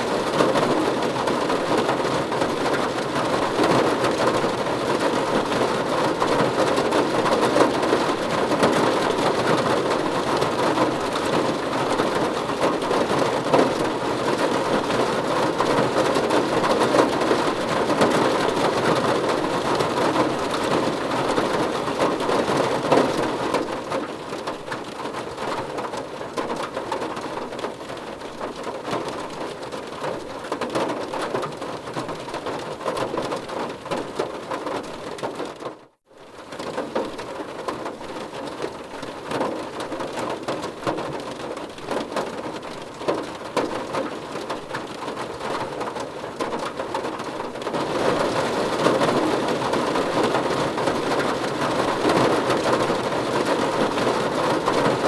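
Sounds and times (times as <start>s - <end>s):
dense rain falling: 0.0s - 55.0s.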